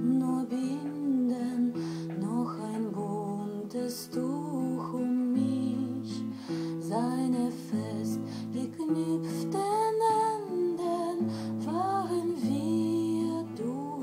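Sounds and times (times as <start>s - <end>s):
guitar accompaniment: 0.0s - 14.0s.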